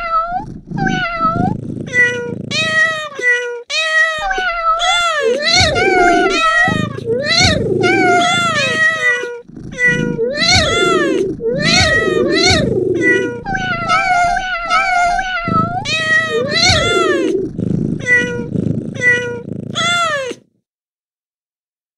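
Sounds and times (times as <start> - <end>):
cat meows: 0.0 - 20.4.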